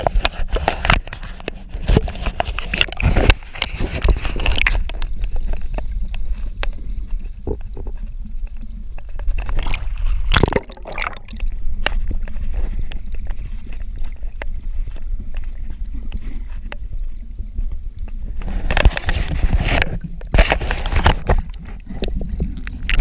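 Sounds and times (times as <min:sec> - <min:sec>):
seawater sloshing and gurgling: 0:00.0 - 0:23.0.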